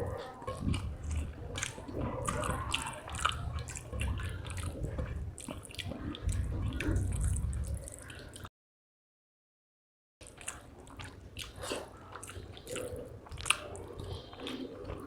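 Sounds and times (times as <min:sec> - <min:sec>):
wet chewing with lip smacks: 0:00.0 - 0:08.5, 0:10.2 - 0:15.0.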